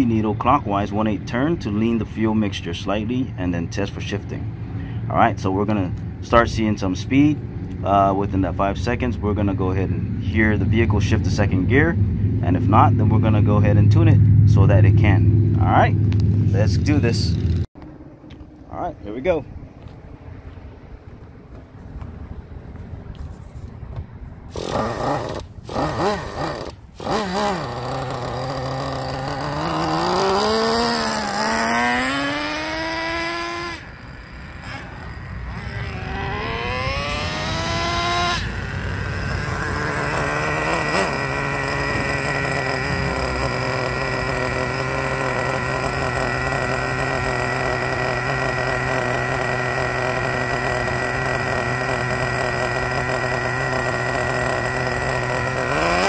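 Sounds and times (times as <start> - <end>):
model engine revving and idling: 0.0 - 17.7, 24.5 - 56.0.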